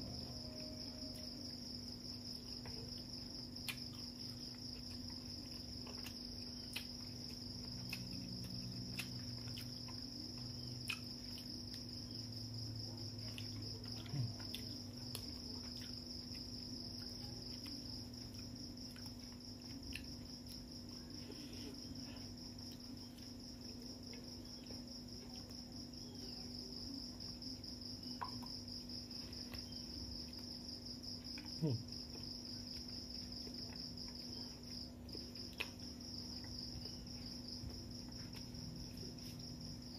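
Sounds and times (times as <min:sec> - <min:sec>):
crickets chirping: 0:00.0 - 0:39.9
eating by hand clicks and smacks: 0:02.2 - 0:21.2, 0:21.8 - 0:26.0, 0:27.7 - 0:39.9.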